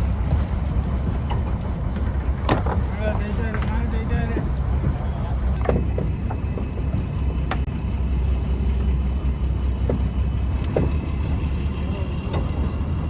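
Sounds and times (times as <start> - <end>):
boat engine low drone: 0.0 - 13.0.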